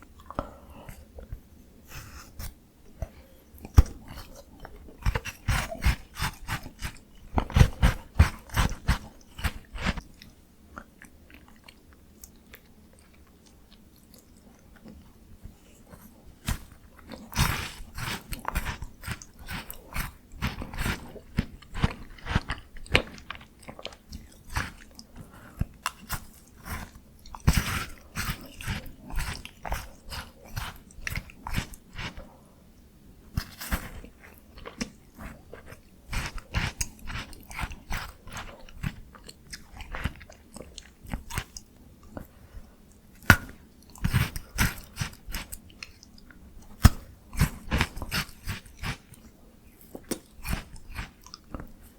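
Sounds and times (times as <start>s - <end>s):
chewing crackles: 2.4s - 32.4s, 33.3s - 51.9s.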